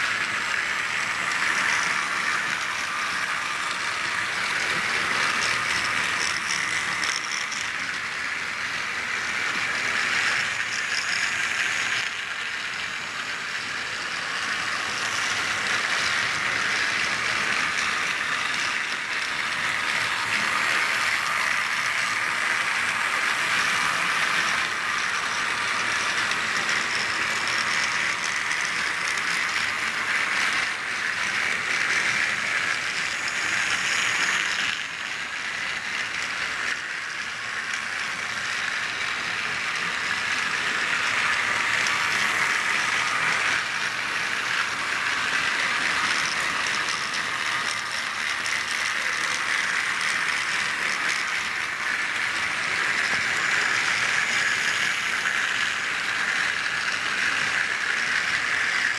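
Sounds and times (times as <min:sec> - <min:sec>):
toy train motor whirring: 0:00.0 - 0:58.9.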